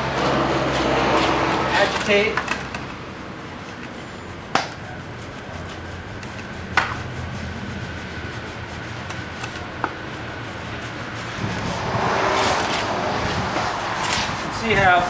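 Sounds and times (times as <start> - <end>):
scrub brush rasping on metal lid: 0.2 - 15.0.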